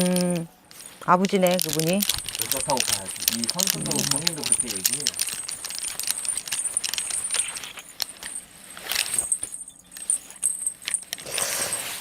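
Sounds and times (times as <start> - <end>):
small metal pieces clinking: 0.0 - 12.0.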